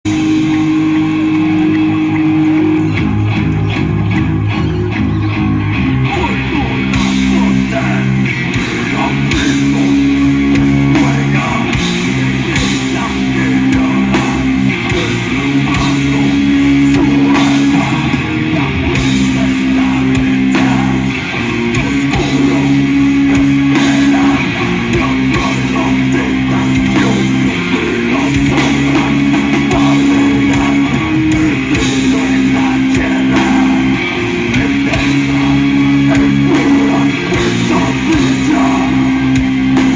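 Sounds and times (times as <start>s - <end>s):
distorted guitar riff: 0.0s - 39.9s
drum kit: 0.0s - 39.9s.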